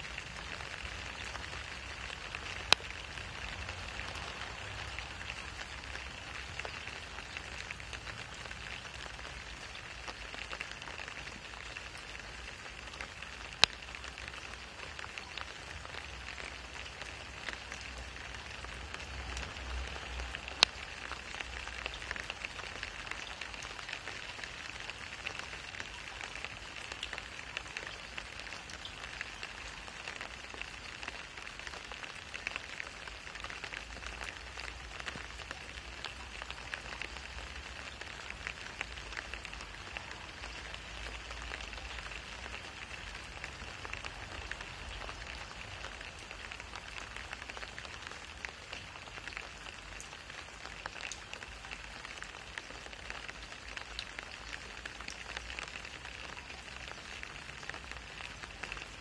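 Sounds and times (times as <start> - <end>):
rain on wet asphalt: 0.0 - 59.0.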